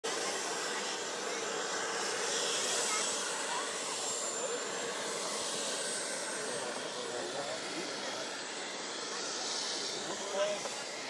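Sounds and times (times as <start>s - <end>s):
turbine jet engines hissing: 0.1s - 11.0s.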